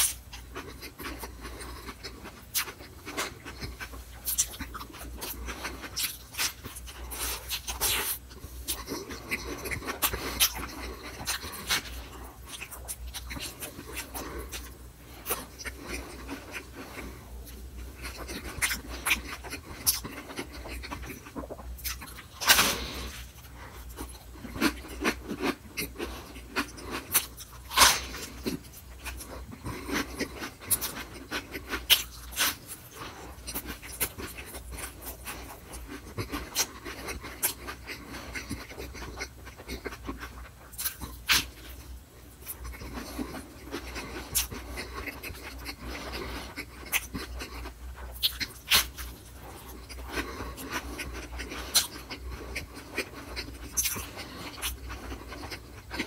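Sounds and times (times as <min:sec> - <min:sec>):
chewing soft moist food: 0:00.0 - 0:56.0
steady low hum: 0:00.0 - 0:56.0.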